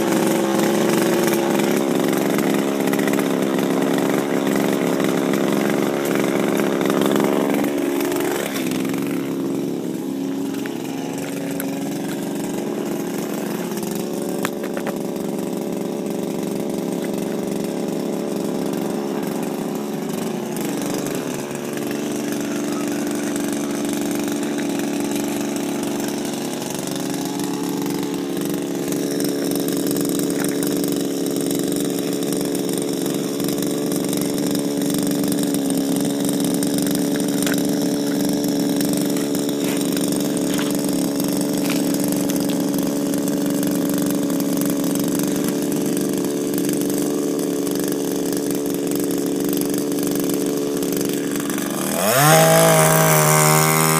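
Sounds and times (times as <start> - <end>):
power broom engine running: 0.0 - 53.9.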